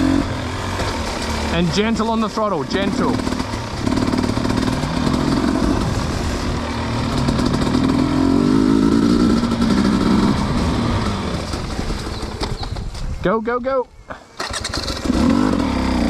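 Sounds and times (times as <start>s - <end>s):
dirt bike engine running: 0.0s - 13.2s, 14.1s - 16.0s.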